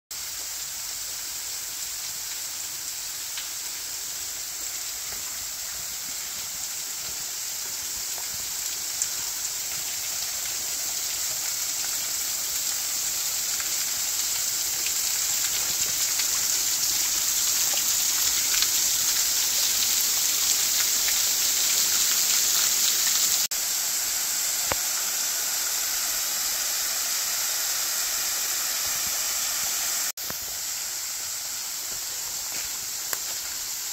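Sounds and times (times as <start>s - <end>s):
waterfall splashing onto rocks: 0.2s - 33.9s.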